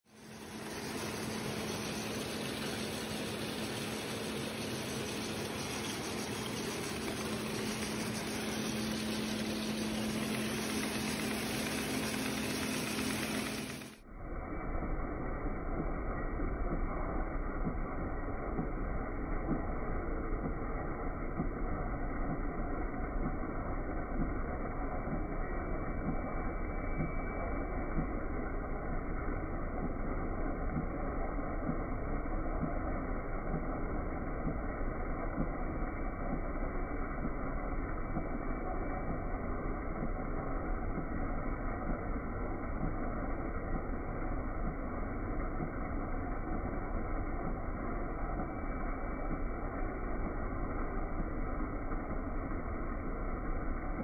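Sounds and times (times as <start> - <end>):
machine belts and rollers whirring: 0.0 - 54.0
steady low hum: 0.0 - 54.0.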